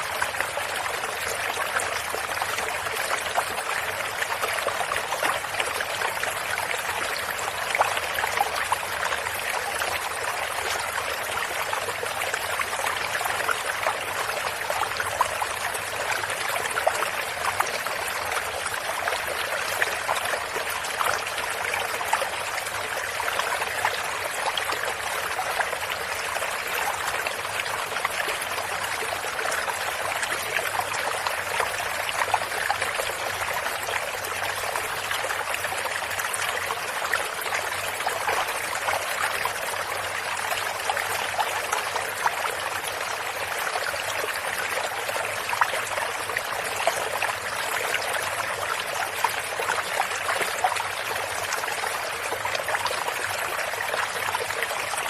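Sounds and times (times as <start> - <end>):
stream trickling and splashing: 0.0 - 55.0.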